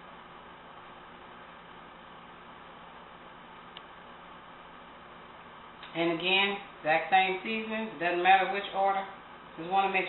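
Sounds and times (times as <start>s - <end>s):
low hiss of recording noise: 0.0s - 10.0s.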